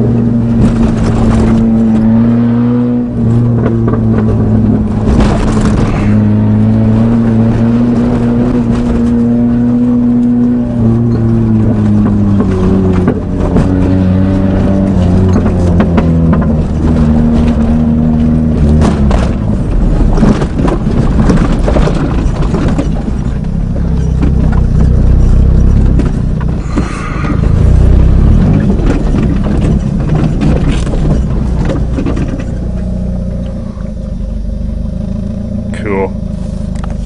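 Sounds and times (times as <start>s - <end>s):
knocks and rattles: 0.0s - 2.4s, 3.2s - 34.1s
car engine: 0.0s - 37.0s
car rumbling over rough ground: 0.0s - 37.0s.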